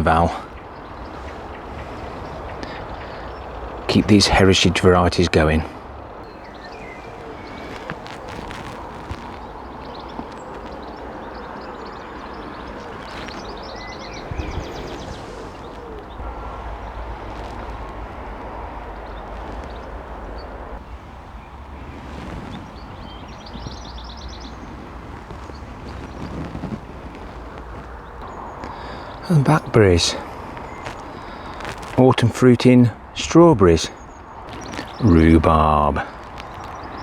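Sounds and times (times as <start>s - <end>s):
songbird trilling: 0.0s - 32.0s, 33.9s - 37.0s
steady low rumble: 0.0s - 37.0s.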